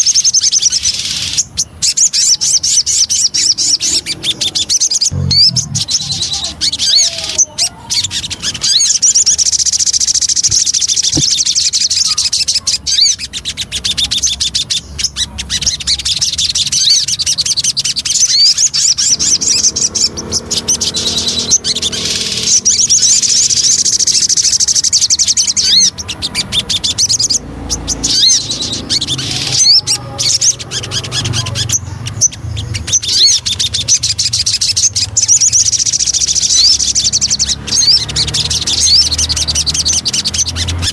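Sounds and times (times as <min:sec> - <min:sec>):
songbird chattering song: 0:00.0 - 0:40.9.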